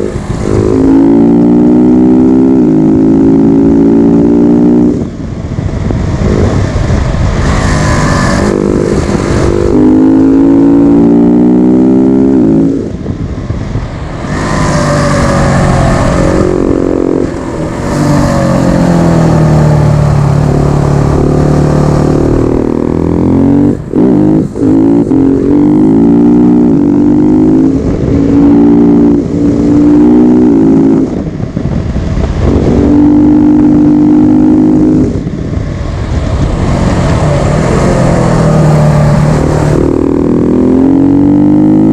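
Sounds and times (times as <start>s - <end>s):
motorcycle engine accelerating hard: 0.0s - 41.9s.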